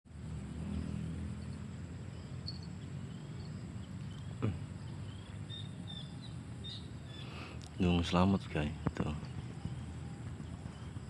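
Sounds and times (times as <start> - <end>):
high insect tone: 0.1 - 11.0
faint bird chirps: 0.5 - 11.0.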